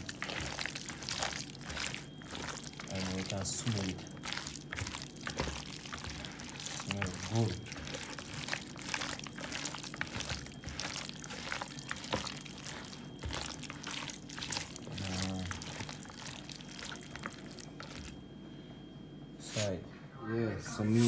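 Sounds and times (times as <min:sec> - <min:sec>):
raw chicken squelching in a bowl: 0:00.0 - 0:18.2.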